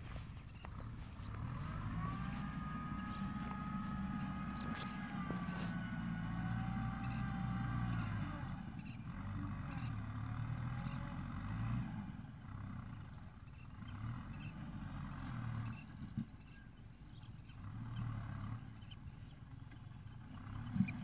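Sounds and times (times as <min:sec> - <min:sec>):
distant tractor engine rumble: 0:00.0 - 0:21.0.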